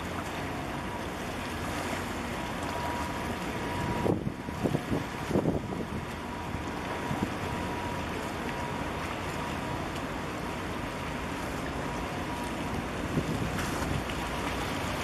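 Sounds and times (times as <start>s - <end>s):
steady wind: 0.0s - 15.0s
water lapping against concrete: 0.0s - 15.0s.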